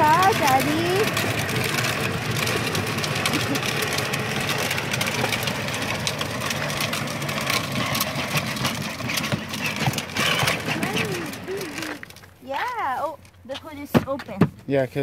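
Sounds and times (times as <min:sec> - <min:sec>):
electric motor whirring: 0:00.0 - 0:12.8
plastic wheels rolling on pavement: 0:00.0 - 0:15.0.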